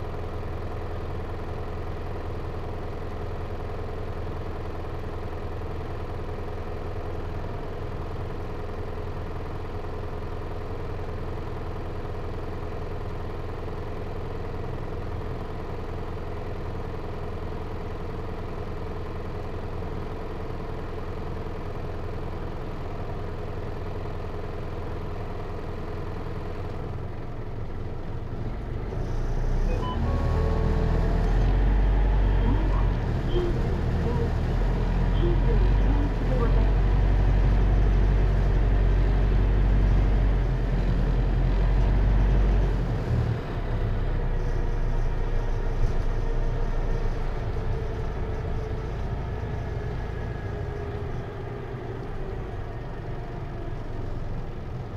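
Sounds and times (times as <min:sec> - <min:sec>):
diesel bus engine from inside: 0:00.0 - 0:54.9.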